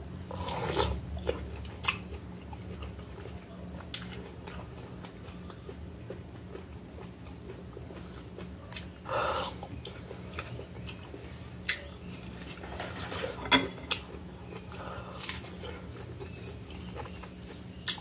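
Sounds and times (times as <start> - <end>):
steady low hum: 0.0 - 18.0
person chewing wetly: 0.3 - 18.0.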